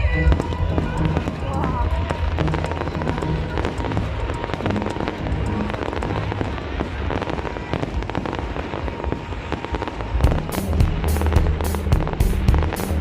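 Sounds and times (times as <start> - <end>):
background music: 0.0 - 13.0
fireworks cracking and banging: 0.0 - 13.0.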